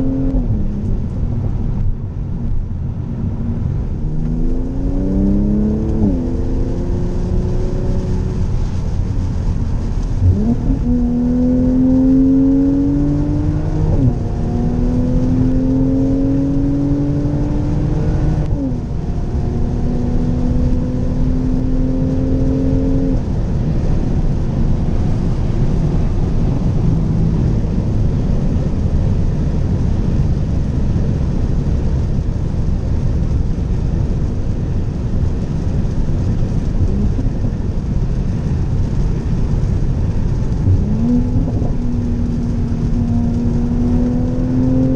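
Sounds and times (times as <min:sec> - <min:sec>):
car engine accelerating hard: 0:00.0 - 0:44.9
wind and road noise: 0:00.0 - 0:44.9.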